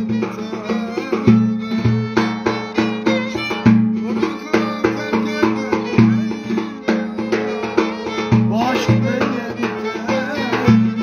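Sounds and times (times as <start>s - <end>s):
bowed violin melody: 0.0s - 11.0s
low drum thuds: 0.0s - 11.0s.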